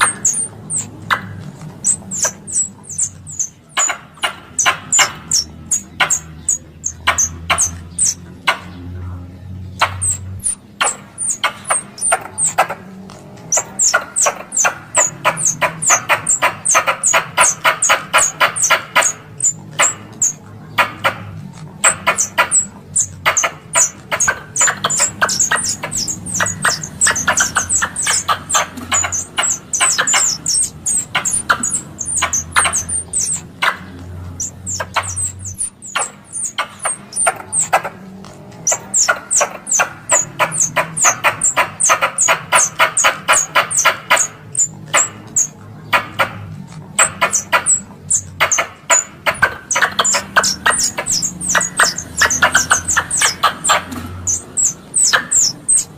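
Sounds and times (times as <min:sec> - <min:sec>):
squirrel call chatter: 0:00.0 - 0:55.9.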